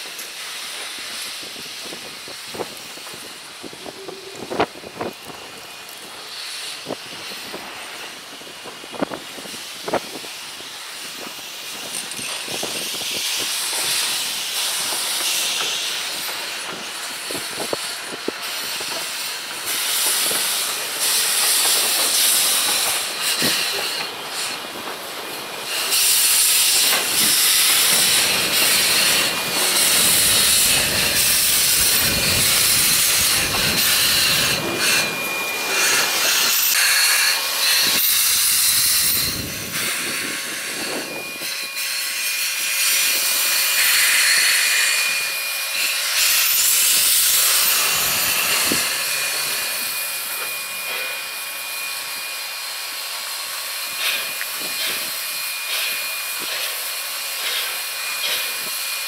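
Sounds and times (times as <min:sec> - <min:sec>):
steam locomotive hissing steam: 0:00.0 - 0:59.0.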